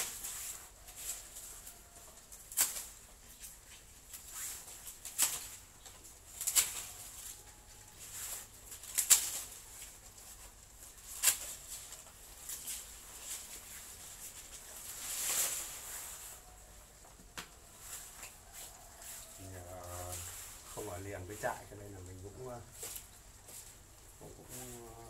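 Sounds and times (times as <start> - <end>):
leaves crackling and rustling: 0.0 - 25.0.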